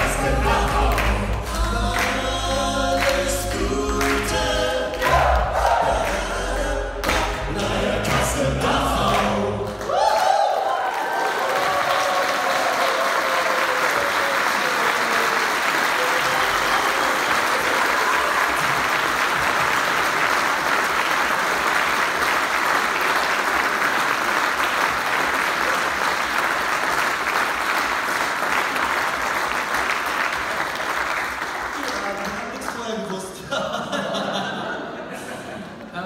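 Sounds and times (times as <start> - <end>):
audience applauding: 0.0 - 33.3.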